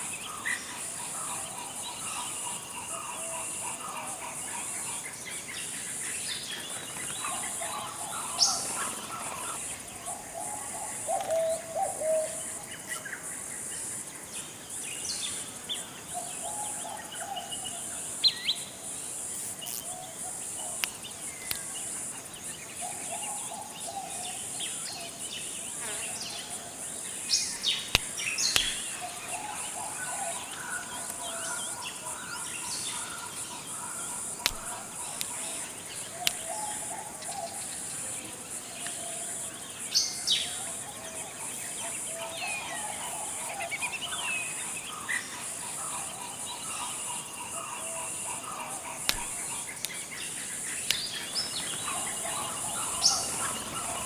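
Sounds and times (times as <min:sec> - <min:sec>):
bird calls and chirps: 0:00.0 - 0:13.2, 0:19.6 - 0:54.0
high insect drone: 0:00.0 - 0:54.0.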